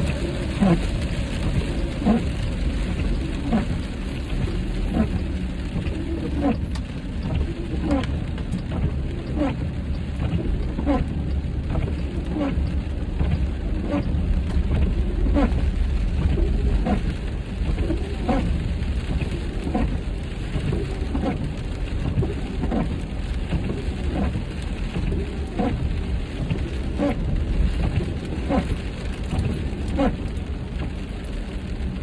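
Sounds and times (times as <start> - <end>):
rain drops tapping on windshield: 0.0 - 32.0
road and wind noise in car: 0.0 - 32.0.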